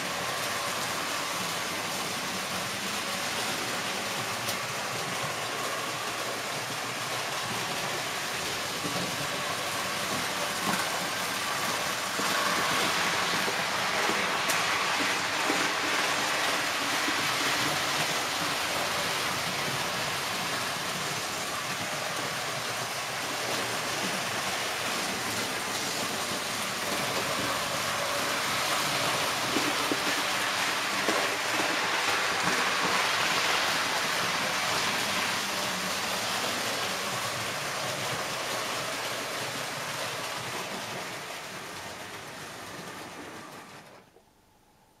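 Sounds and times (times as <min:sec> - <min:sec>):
model train rattling on metal track: 0:00.0 - 0:44.1.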